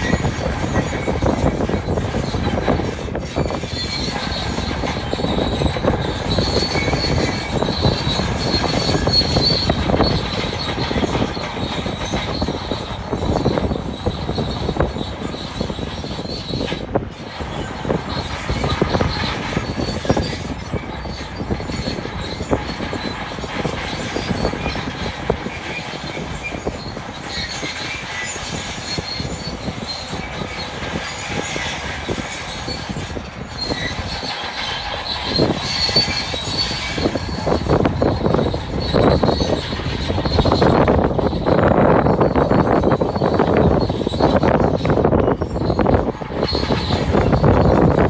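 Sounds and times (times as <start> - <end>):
steel tracks squealing and clattering: 0.0 - 48.0.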